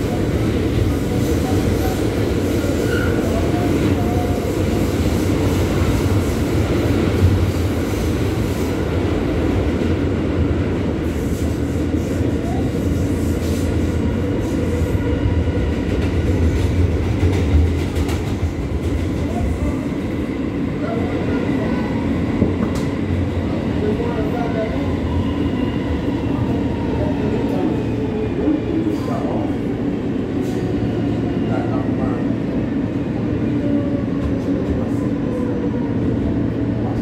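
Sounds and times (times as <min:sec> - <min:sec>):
subway train wheels rumbling: 0:00.0 - 0:37.0.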